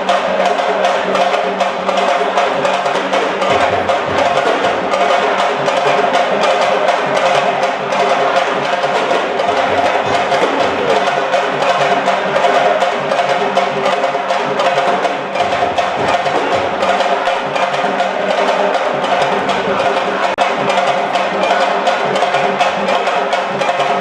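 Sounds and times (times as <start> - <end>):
fast dense drumming: 0.0 - 24.0
steady held tones: 0.0 - 24.0.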